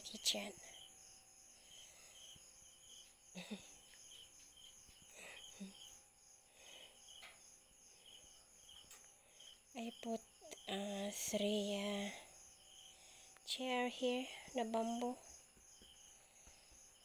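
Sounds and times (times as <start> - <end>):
crickets chirping faintly: 0.0 - 17.0.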